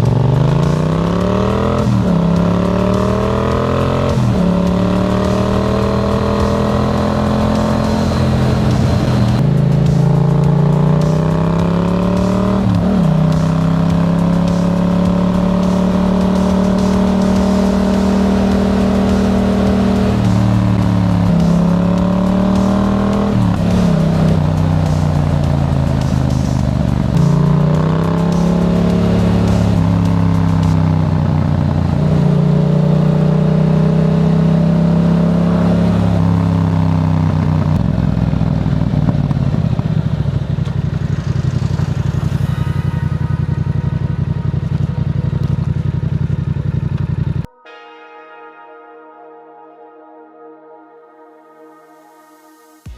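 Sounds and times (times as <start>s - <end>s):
motorcycle engine revving: 0.0s - 47.5s.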